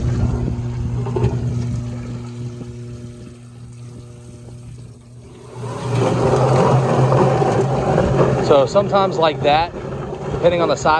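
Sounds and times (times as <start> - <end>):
electric motor humming: 0.0 - 10.9.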